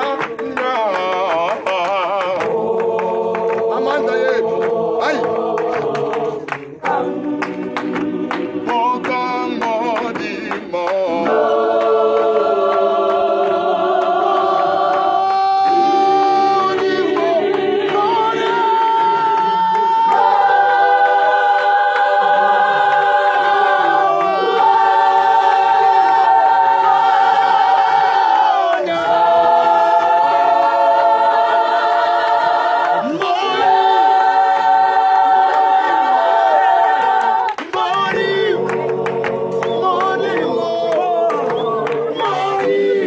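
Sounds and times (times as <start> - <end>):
gospel choir singing a cappella: 0.0 - 43.0.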